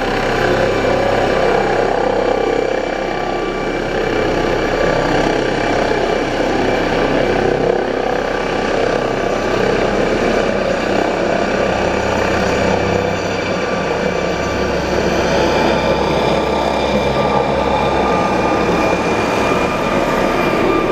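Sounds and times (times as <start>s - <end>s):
helicopter rotor noise: 0.0s - 20.9s
high turbine whine: 0.0s - 20.9s.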